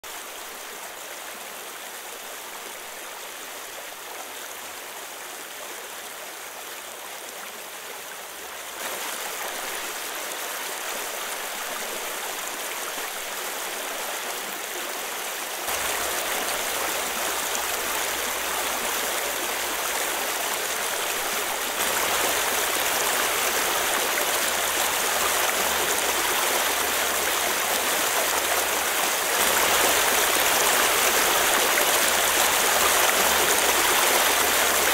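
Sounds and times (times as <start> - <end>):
water rushing stream: 0.0 - 34.9.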